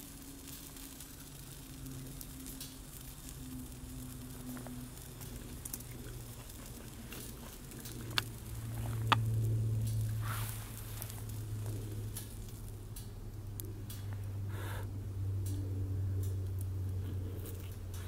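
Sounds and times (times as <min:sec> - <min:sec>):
low steady hum: 0:00.0 - 0:18.0
twig fire crackling: 0:00.0 - 0:18.0.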